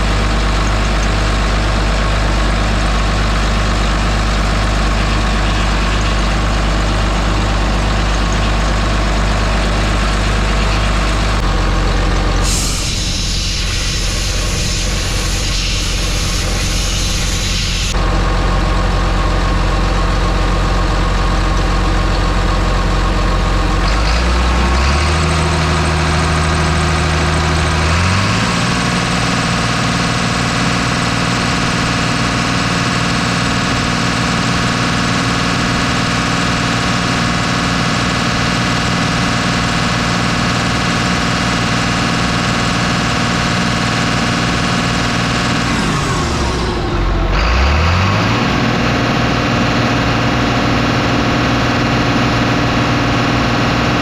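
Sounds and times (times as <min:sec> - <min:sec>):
diesel loader engine running: 0:00.0 - 0:54.0.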